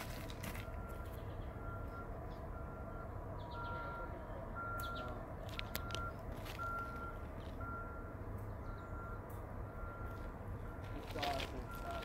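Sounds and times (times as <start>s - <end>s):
distant reversing alarm beeping: 0.0s - 12.0s
low steady rumble: 0.0s - 12.0s.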